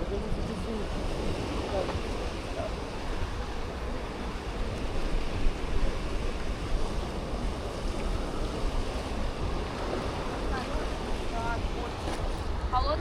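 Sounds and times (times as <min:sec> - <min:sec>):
sea surf washing on beach: 0:00.0 - 0:13.0
wind buffeting microphone: 0:00.0 - 0:13.0.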